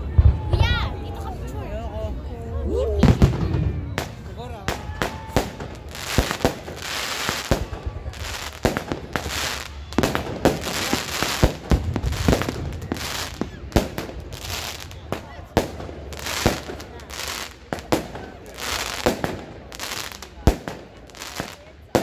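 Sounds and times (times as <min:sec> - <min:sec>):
fireworks bangs: 0:03.0 - 0:22.0
fireworks crackling: 0:03.0 - 0:22.0.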